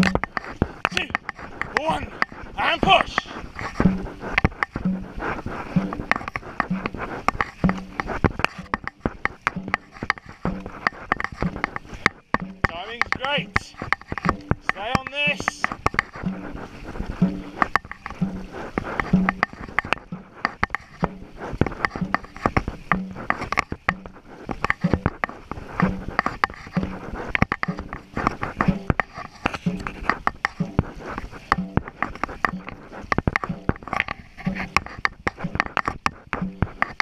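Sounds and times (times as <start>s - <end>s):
low thud on each stroke: 0.0s - 37.0s
paddles splashing through water: 0.0s - 37.0s.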